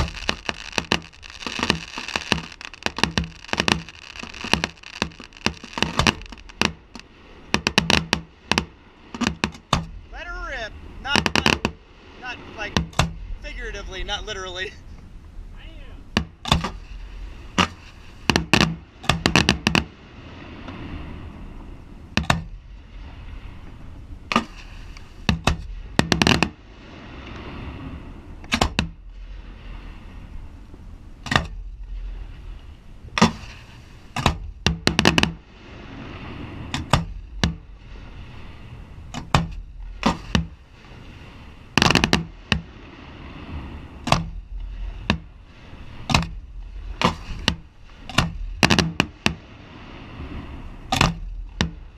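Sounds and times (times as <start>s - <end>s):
fireworks booming: 0.0s - 14.3s, 16.0s - 21.0s, 22.1s - 26.6s, 31.2s - 51.9s
low rumble: 0.0s - 51.9s.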